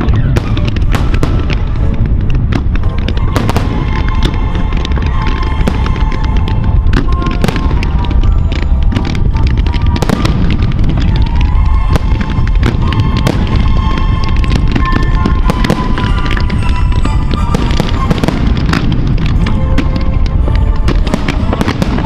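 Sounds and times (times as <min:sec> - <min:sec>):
fireworks bangs and pops: 0:00.0 - 0:22.0
music playing: 0:00.0 - 0:22.0.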